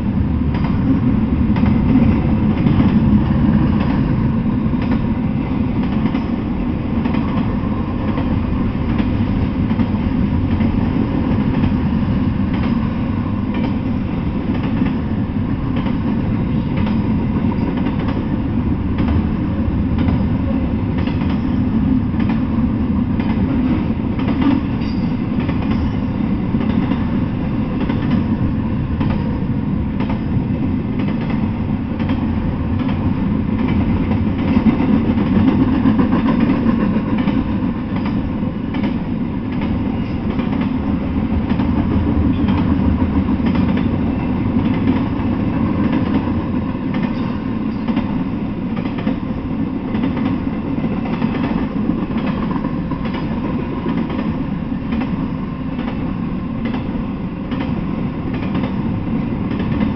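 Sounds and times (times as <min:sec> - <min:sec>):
train wheels on rail: 0:00.0 - 0:59.9.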